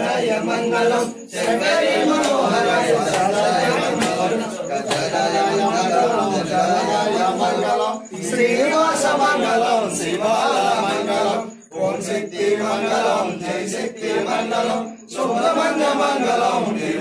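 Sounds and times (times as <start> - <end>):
men chanting mantras: 0.0 - 17.0.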